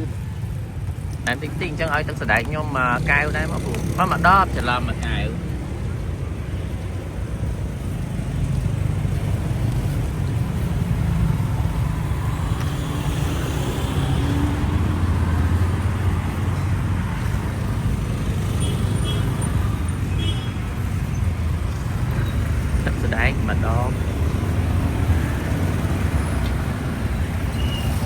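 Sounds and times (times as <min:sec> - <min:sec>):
traffic engines humming: 0:00.0 - 0:28.0.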